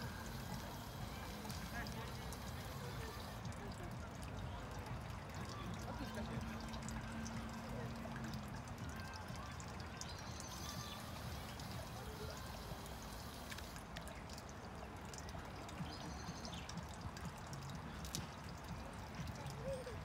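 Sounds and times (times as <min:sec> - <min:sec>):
trickle of running water: 0:00.0 - 0:20.0.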